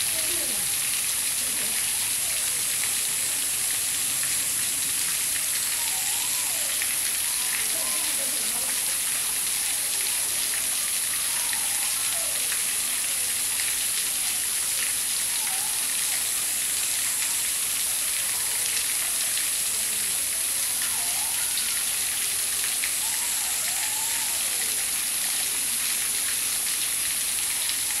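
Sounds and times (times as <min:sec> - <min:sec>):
water trickling over rocks: 0:00.0 - 0:28.0.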